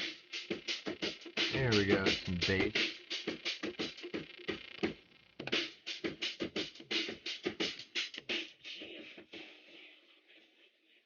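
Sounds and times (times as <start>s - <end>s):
music with drum beat: 0.0s - 10.3s.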